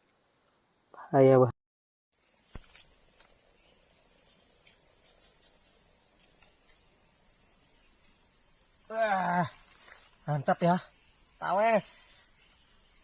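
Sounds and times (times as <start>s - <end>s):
crickets chirping: 0.0s - 1.5s, 2.2s - 13.0s.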